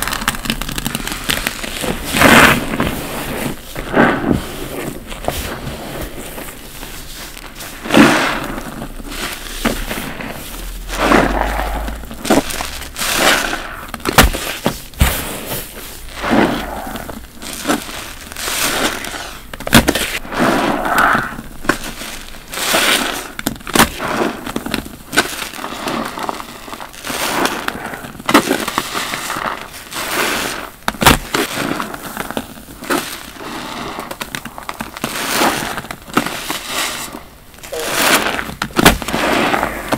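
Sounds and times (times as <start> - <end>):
foam crackling: 0.0 - 39.9.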